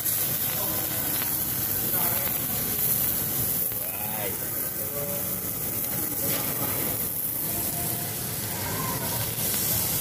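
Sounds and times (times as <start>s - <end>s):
faint chatter: 0.0s - 10.0s
meat sizzling on a grill: 0.0s - 10.0s
restaurant hum: 0.0s - 10.0s.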